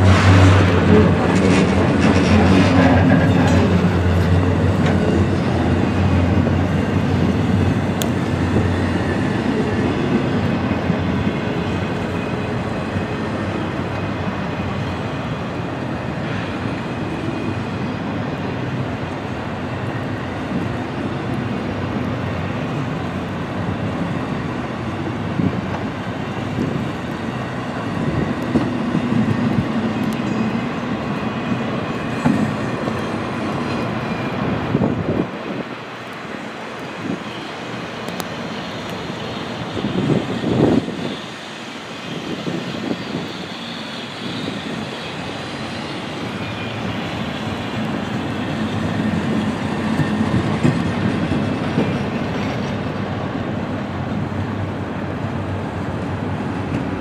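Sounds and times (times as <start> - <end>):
freight cars rumbling on rails: 0.0 - 57.0.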